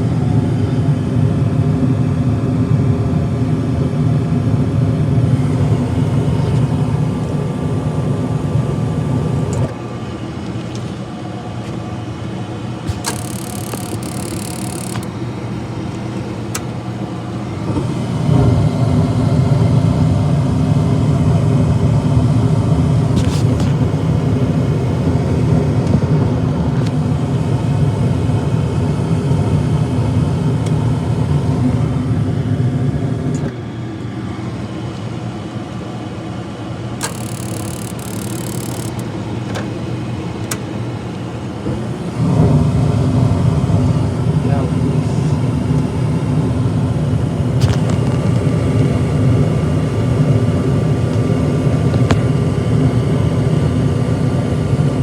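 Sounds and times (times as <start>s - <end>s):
furnace humming: 4.3s - 34.6s, 37.0s - 55.0s.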